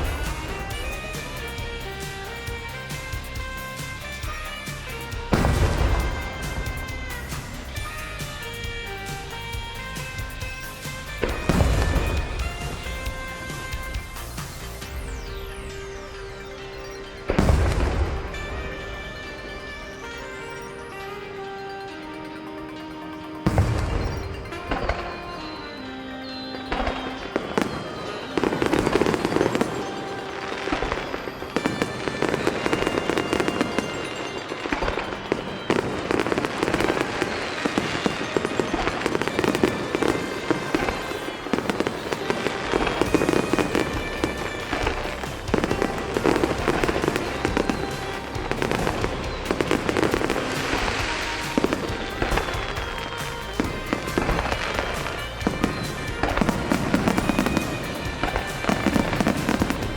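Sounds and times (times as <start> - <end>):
fireworks bursts and bangs: 0.0 - 59.9
music: 0.0 - 59.9.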